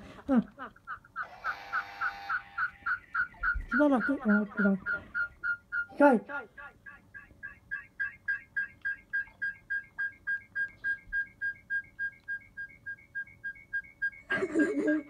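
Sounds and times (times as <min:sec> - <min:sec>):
rapid high-pitched chirps: 0:00.9 - 0:14.3.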